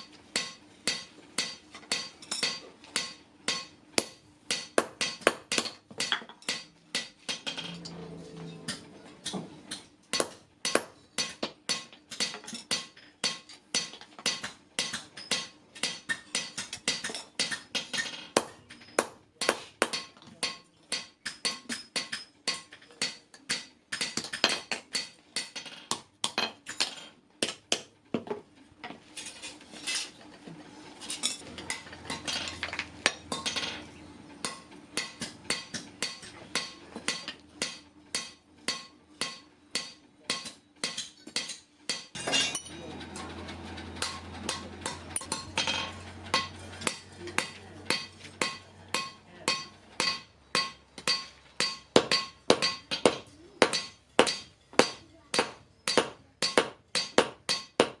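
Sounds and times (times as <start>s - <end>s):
hammer striking steel on anvil: 0.0s - 27.9s, 31.4s - 43.3s, 44.0s - 58.0s.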